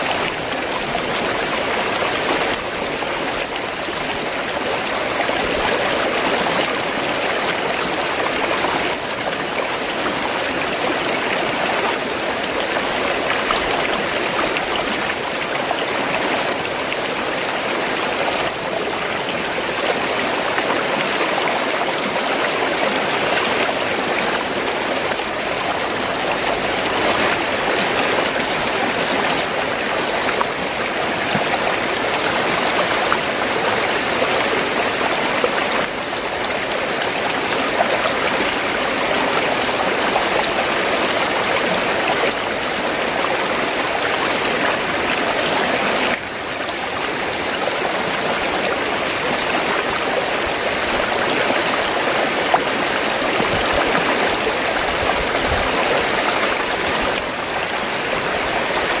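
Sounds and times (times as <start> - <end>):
water gurgling and rushing: 0.0 - 59.0.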